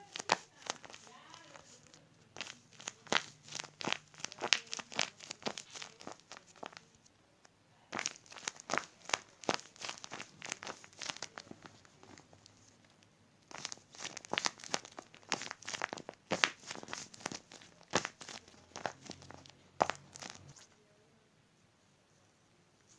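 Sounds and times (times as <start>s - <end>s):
squishy toy crinkling: 0.0s - 7.0s, 7.9s - 20.7s.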